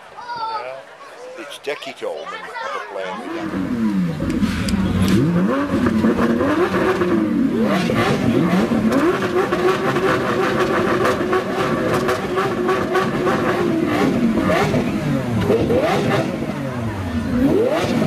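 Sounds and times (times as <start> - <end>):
car engine revving: 3.3 - 18.0.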